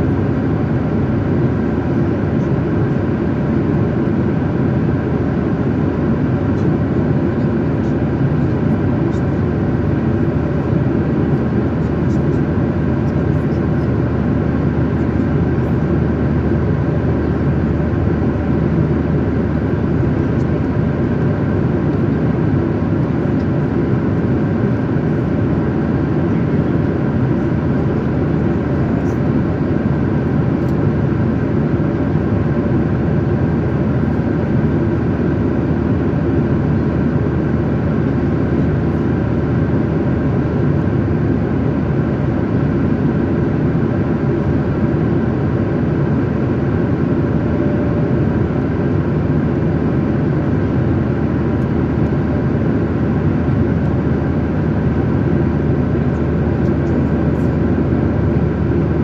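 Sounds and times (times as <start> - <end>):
jet airliner cabin roar: 0.0 - 59.0.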